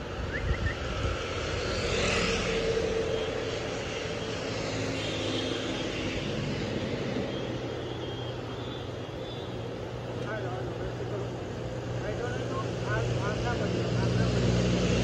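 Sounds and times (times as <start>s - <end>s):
hum of road traffic: 0.0s - 15.0s
motorcycle passing: 0.0s - 15.0s.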